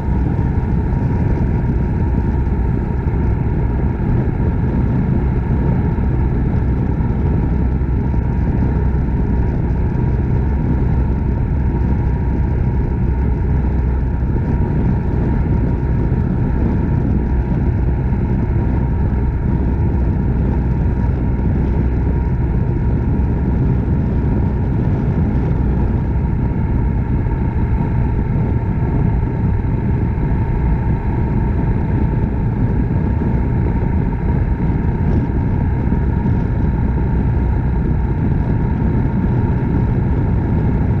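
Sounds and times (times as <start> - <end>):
motorcycle engine cruising: 0.0 - 41.0
wind and road noise: 0.0 - 41.0.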